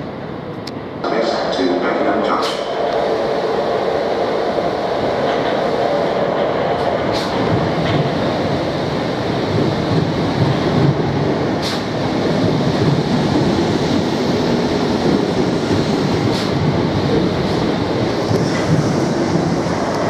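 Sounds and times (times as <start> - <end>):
electric train running past: 0.0 - 20.0.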